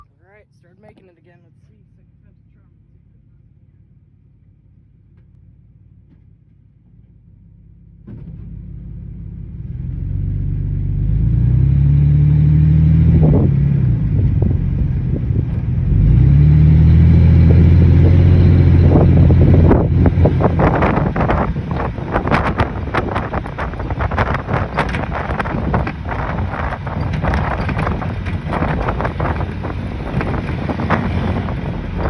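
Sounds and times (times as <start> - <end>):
car engine accelerating: 1.0 - 32.0.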